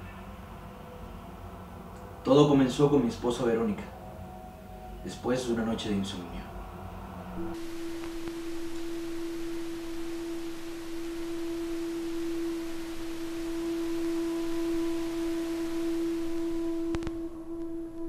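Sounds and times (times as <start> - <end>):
faint higher tones: 0.0 - 18.0
soft hiss: 0.0 - 18.0
steady electronic tone drone: 0.0 - 18.0.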